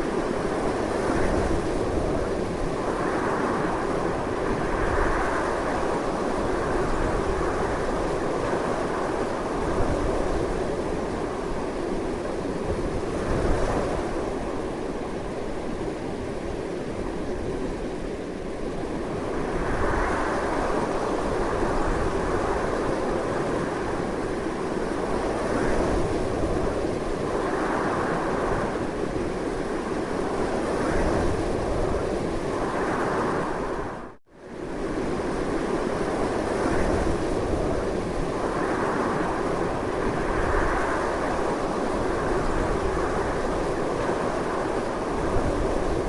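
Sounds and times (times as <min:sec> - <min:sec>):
strong wind rushing: 0:00.0 - 0:46.0.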